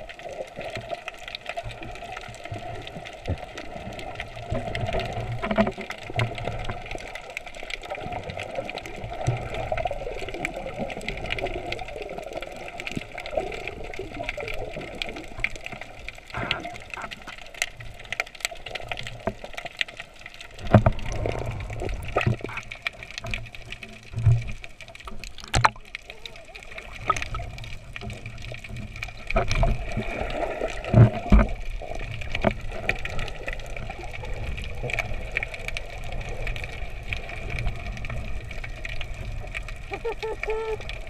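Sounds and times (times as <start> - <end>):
underwater moving water: 0.0 - 41.0.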